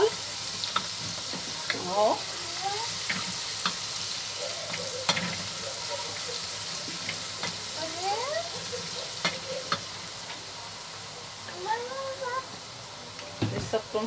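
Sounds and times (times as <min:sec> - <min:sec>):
garlic sizzling in oil: 0:00.0 - 0:14.0.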